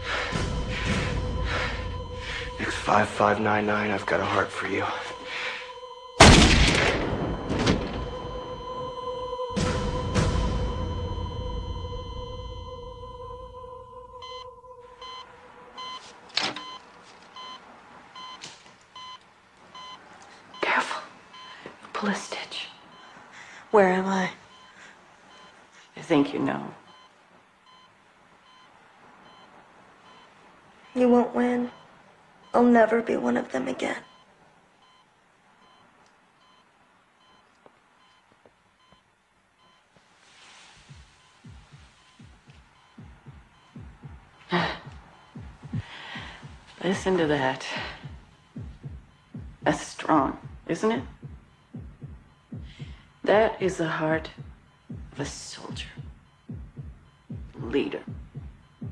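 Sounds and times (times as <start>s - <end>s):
heart monitor beeping: 0.0s - 6.4s, 7.1s - 17.6s, 18.2s - 58.9s.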